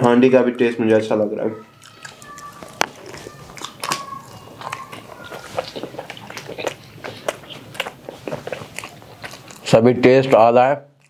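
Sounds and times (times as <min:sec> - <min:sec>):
people chewing and lip smacking: 0:01.6 - 0:11.0.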